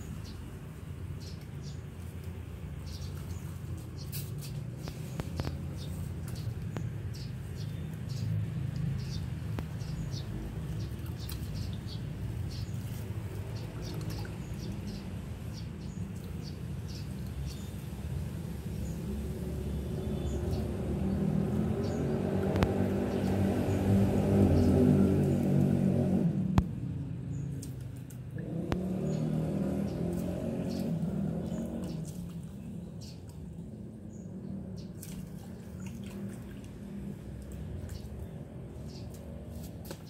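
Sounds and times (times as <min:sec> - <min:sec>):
small birds chirping: 0:00.0 - 0:40.0
vehicle engine: 0:01.6 - 0:40.0.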